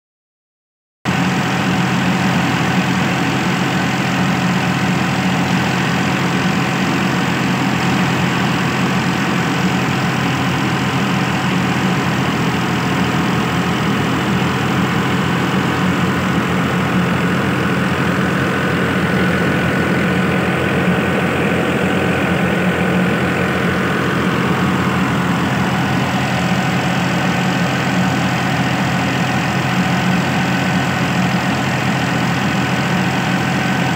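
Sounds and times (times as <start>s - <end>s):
tractor engine running steadily: 1.1s - 33.9s.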